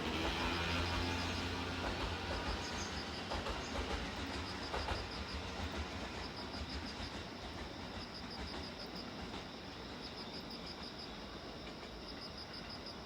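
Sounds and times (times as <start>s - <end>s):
wheels clicking over rail joints: 0.0s - 12.6s
electric train rumble: 0.0s - 13.0s.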